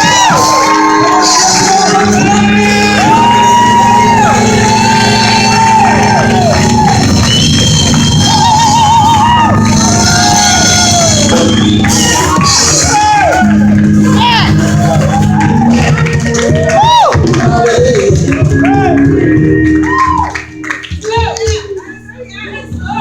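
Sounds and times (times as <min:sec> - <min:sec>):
voices shouting and singing: 0:00.0 - 0:20.4
held chords: 0:00.0 - 0:23.0.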